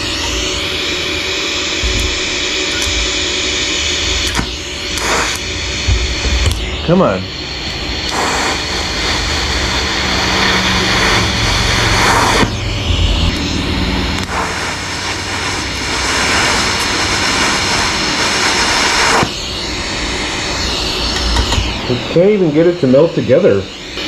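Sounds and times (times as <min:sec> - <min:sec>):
welding arc hissing: 0:00.0 - 0:24.0.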